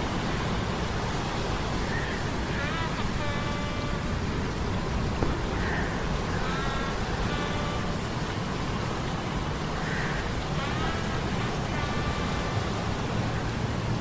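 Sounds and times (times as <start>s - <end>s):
storm rain-like rush: 0.0s - 14.0s.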